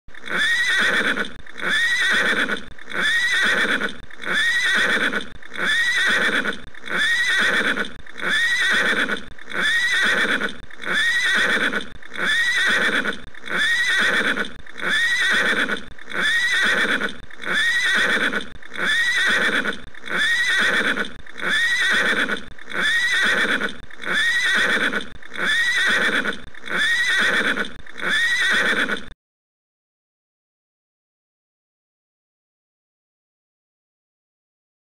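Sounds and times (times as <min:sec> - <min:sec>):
horse neigh: 0:00.2 - 0:29.2.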